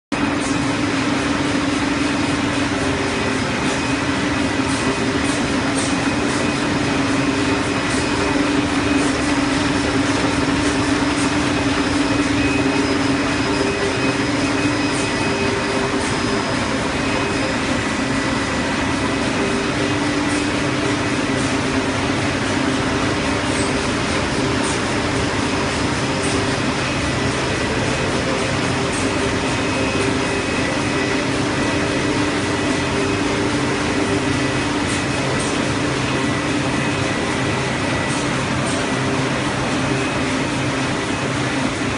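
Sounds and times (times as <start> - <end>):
printing press drone: 0.1 - 41.9.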